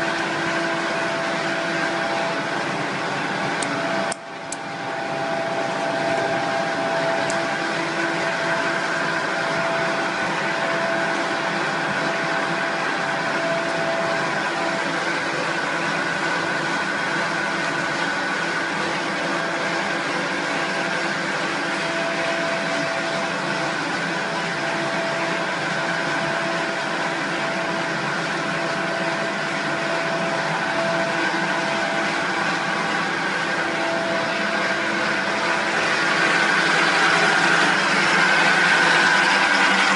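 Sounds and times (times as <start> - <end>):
machine drone: 0.0 - 39.9
steady whining tones: 0.0 - 39.9.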